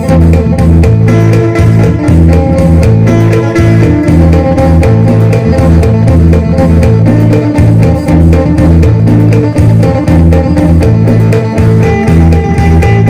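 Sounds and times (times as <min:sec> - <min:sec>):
electric guitar plucked melody: 0:00.0 - 0:13.0
repeating low drone: 0:00.0 - 0:13.0.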